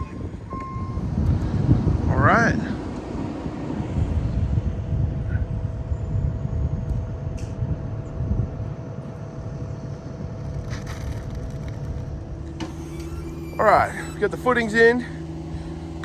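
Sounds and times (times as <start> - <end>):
heavy machine engine rumbling: 0.0 - 16.0.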